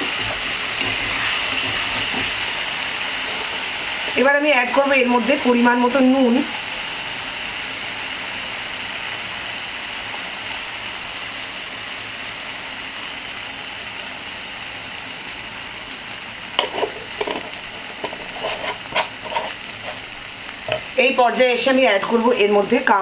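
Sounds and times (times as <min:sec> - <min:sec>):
masala sizzling in hot oil: 0:00.0 - 0:23.0.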